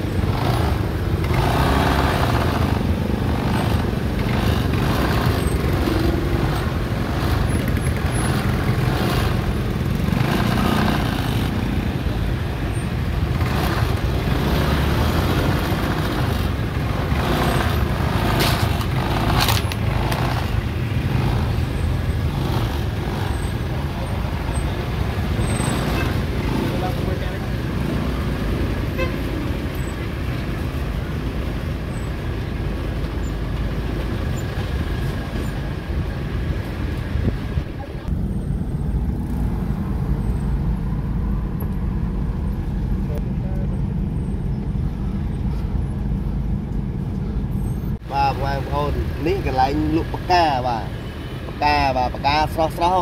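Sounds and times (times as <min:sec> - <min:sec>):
scooter engines and traffic: 0:00.0 - 0:53.0.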